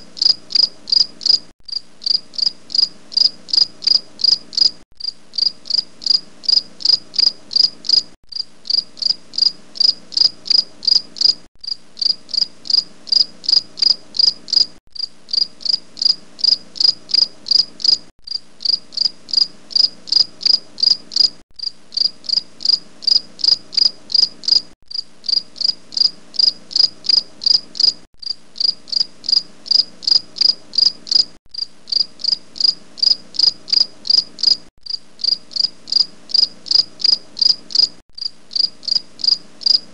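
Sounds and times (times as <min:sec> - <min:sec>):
insect chirping in high pulses: 0:00.2 - 0:39.8.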